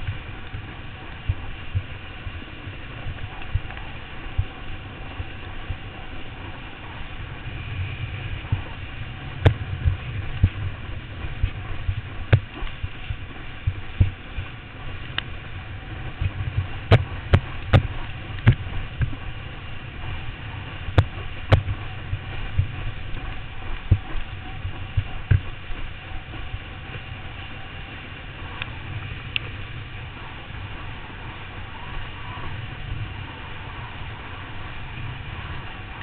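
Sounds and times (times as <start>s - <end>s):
steady low rumble: 0.0s - 36.0s
water rushing under board: 0.0s - 36.0s
wind buffeting microphone: 0.0s - 36.0s.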